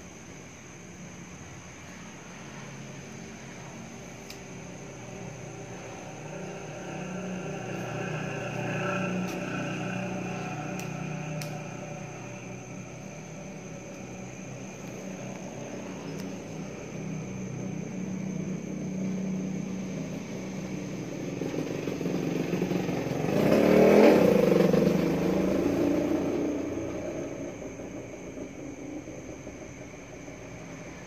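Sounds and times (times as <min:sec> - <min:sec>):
vehicle engine passing by: 0:02.2 - 0:31.0.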